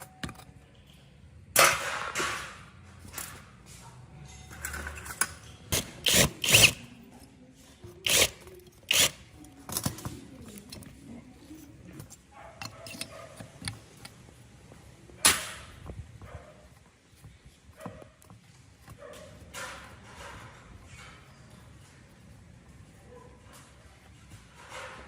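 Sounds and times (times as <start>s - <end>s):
hand tools and metal clanking: 0.0s - 14.4s, 15.1s - 25.0s.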